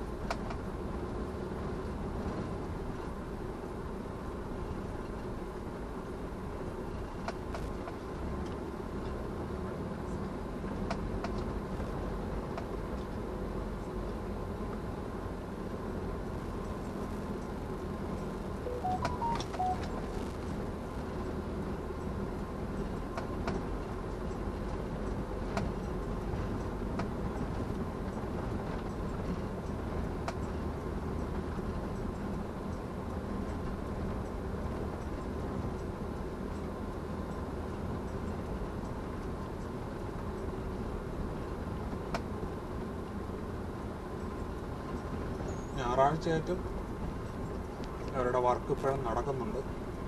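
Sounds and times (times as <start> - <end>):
car road and engine noise: 0.0 - 50.0.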